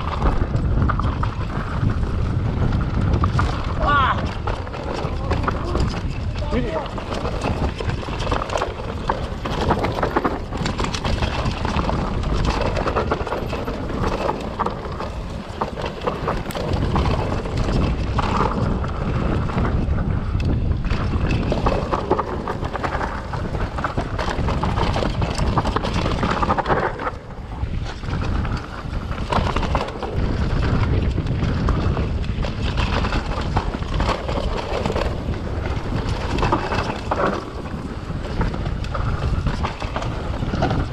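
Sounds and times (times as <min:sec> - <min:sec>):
bike clattering over rough ground: 0:00.0 - 0:40.9
wind rushing over microphone: 0:00.0 - 0:40.9.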